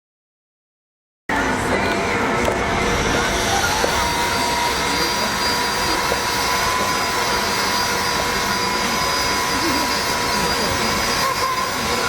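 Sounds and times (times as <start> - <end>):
steam train: 1.3 - 12.0.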